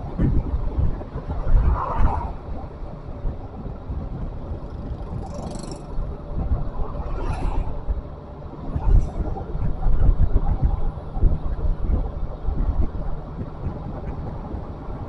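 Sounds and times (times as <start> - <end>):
vehicle running: 0.0 - 15.0
wind rumbling on microphone: 0.0 - 15.0.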